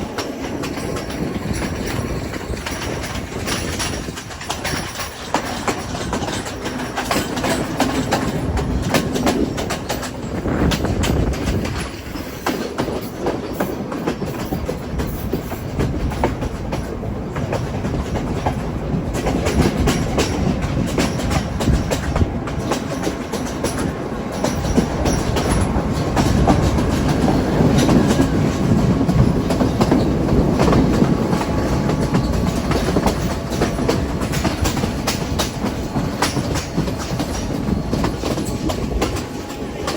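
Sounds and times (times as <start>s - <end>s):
train rumbling on rails: 0.0s - 39.9s
wheels clicking over rail joints: 0.0s - 39.9s.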